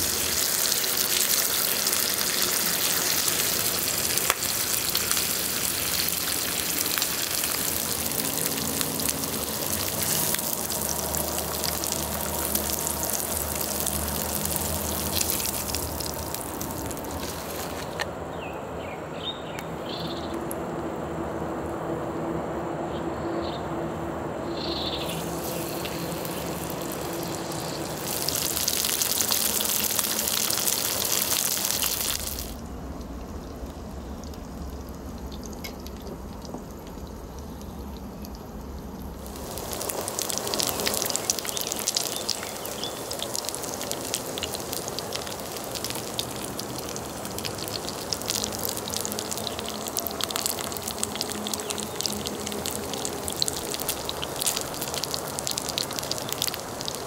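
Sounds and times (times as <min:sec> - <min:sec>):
meat sizzling on a grill: 0:00.0 - 0:18.0, 0:24.9 - 0:57.0.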